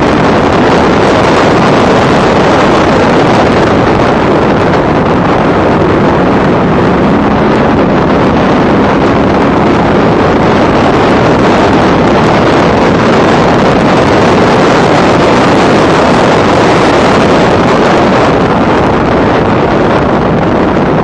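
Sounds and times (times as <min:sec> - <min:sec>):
race car engine at speed: 0:00.0 - 0:21.0
wind on microphone: 0:00.0 - 0:21.0.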